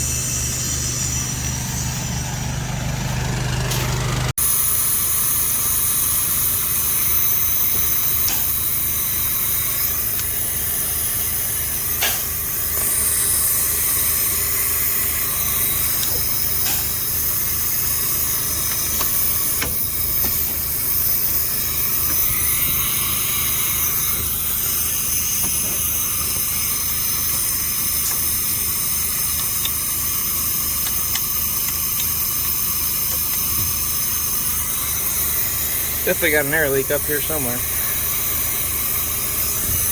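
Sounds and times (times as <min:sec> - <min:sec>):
compressed air hissing: 0:00.0 - 0:39.9
diesel engine idling: 0:00.0 - 0:39.9.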